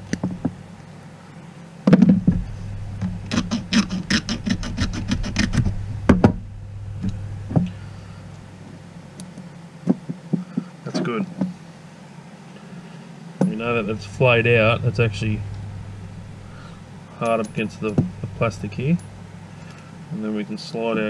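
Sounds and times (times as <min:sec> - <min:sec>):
low hum: 0:00.0 - 0:10.6, 0:12.6 - 0:20.4.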